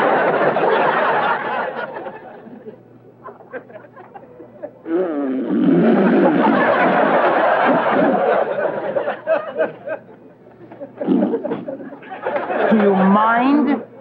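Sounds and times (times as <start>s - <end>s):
audience laughing: 0.0s - 4.8s, 5.8s - 13.0s.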